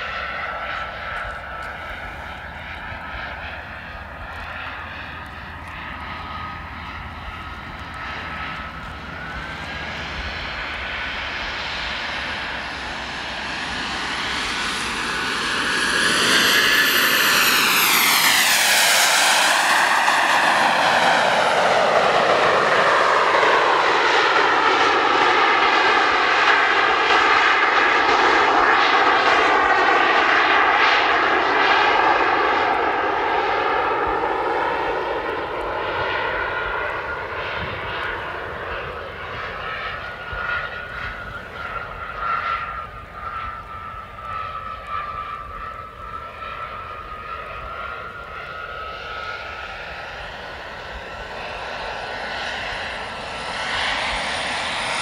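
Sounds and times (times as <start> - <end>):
model jet engines whining: 0.0 - 55.0.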